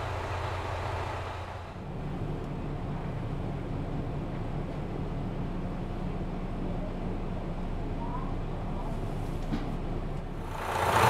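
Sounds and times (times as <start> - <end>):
diesel engine humming: 0.0 - 9.2, 9.8 - 11.0.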